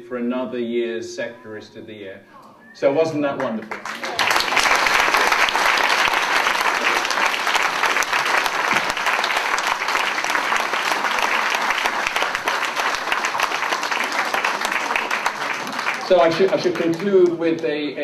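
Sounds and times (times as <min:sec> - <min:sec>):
audience applauding: 0:03.4 - 0:17.9.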